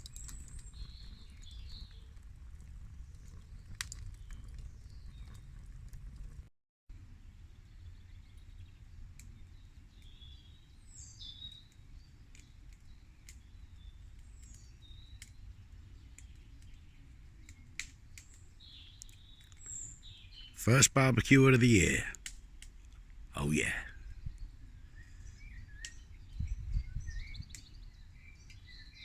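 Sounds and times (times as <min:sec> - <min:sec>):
small birds chirping: 0:00.0 - 0:05.8, 0:07.6 - 0:22.0, 0:23.4 - 0:29.0.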